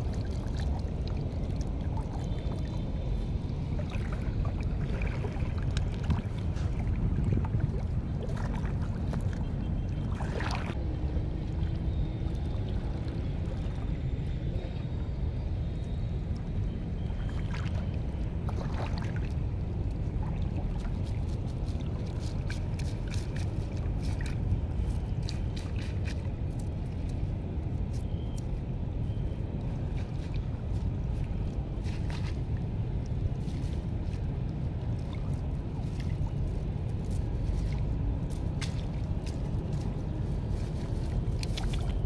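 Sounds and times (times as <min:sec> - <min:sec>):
water splashing and dripping: 0:00.0 - 0:15.3, 0:16.2 - 0:42.0
wind rumble on microphone: 0:00.0 - 0:42.0.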